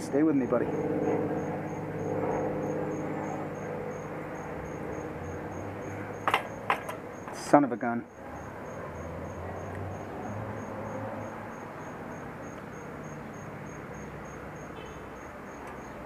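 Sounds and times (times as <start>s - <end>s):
cricket chirping: 0.2s - 16.0s.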